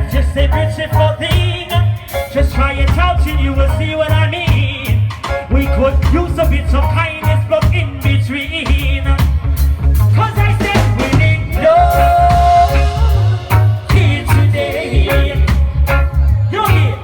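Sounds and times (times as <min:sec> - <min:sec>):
drum kit: 0:00.0 - 0:17.0
heavy bass line: 0:00.0 - 0:17.0
reggae band playing: 0:00.0 - 0:17.0.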